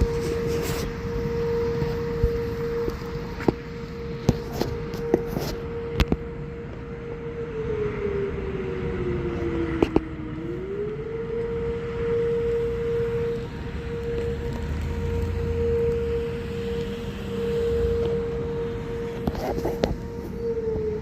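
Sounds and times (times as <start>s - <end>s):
warning siren wailing: 0.0s - 21.0s.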